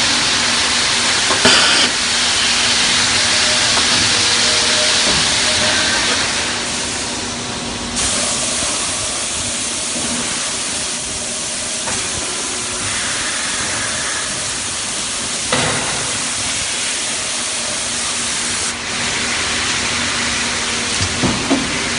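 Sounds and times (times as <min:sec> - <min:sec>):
machinery running with hiss: 0:00.0 - 0:21.9.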